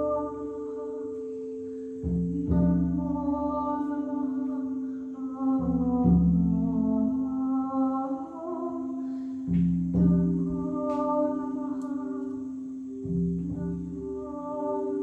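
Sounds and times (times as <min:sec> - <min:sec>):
lower singing bowl tone: 0:00.0 - 0:15.0
person singing softly: 0:00.0 - 0:15.0.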